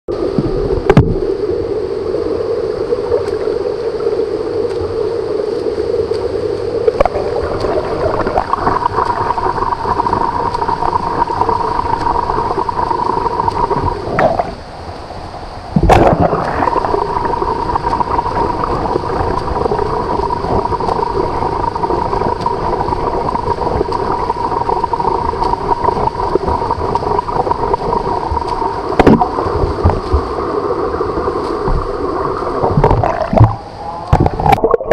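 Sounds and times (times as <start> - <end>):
even hum: 0.1 - 34.9
underwater swimming gurgle: 0.1 - 34.9.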